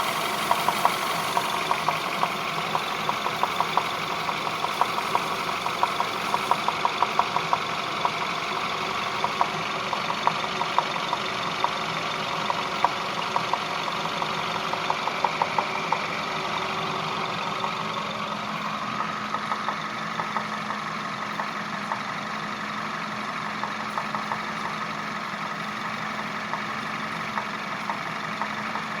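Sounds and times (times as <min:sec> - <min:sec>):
car engine idling: 0:00.0 - 0:29.0
engine knocking tick: 0:00.0 - 0:29.0.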